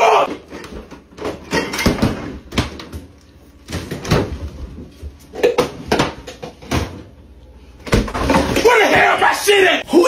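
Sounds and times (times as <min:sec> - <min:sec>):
refrigerator doors and contents clunking: 0:00.0 - 0:09.3.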